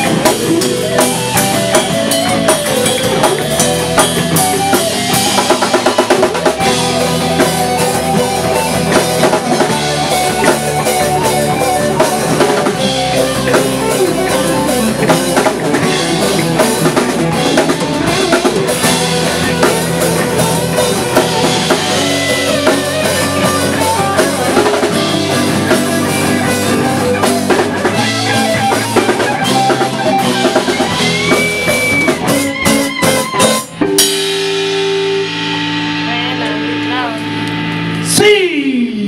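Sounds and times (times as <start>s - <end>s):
drum kit: 0.0s - 38.4s
electric bass: 0.0s - 39.0s
electric guitar: 0.0s - 39.0s.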